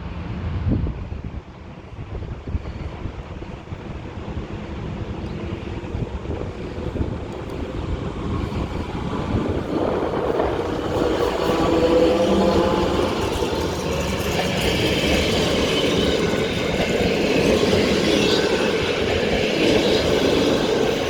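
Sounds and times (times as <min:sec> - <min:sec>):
train low rumble: 0:00.0 - 0:21.0
locomotive tonal hum: 0:03.2 - 0:21.0.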